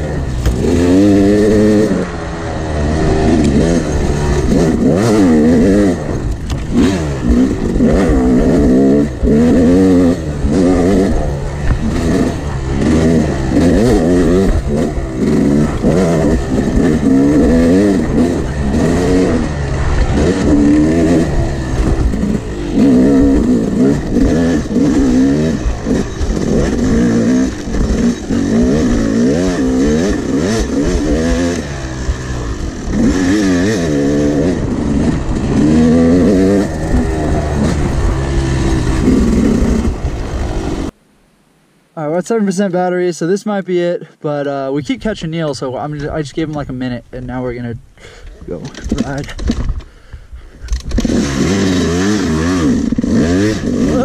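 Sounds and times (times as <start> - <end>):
dirt bike engine revving: 0.0 - 41.0, 50.6 - 54.0.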